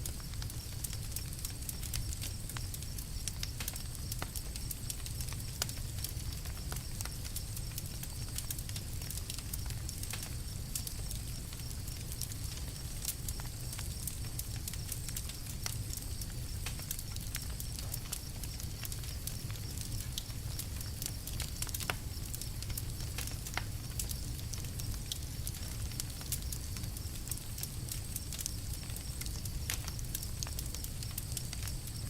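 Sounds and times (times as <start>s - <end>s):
campfire crackling and popping: 0.0s - 32.0s
low rumble of fire: 0.0s - 32.0s.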